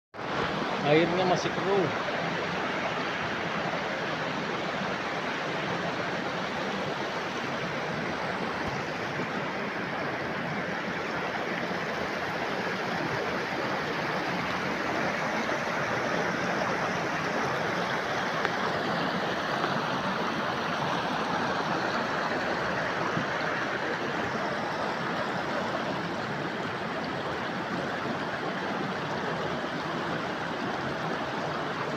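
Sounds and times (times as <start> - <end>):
flowing water rushing: 0.2 - 31.9.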